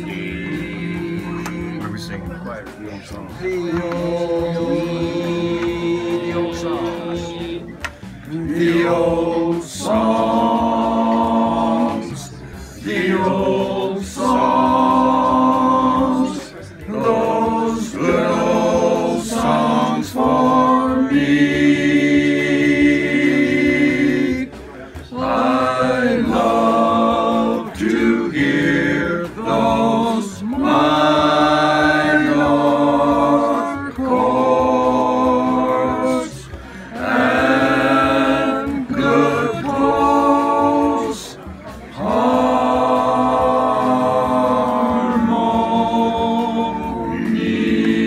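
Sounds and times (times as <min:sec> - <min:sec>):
group singing a cappella: 0:00.0 - 0:02.1, 0:03.3 - 0:48.0.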